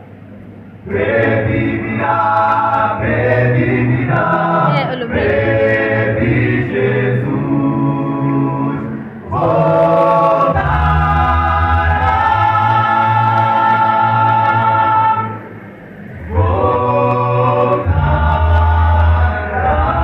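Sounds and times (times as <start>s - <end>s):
vocal quartet singing in harmony: 0.8s - 20.0s.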